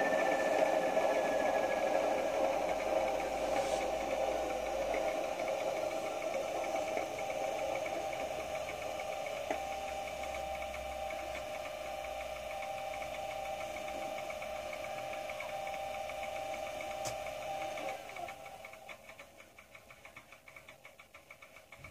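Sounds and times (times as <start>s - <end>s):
faint regular ticking: 0.6s - 21.9s.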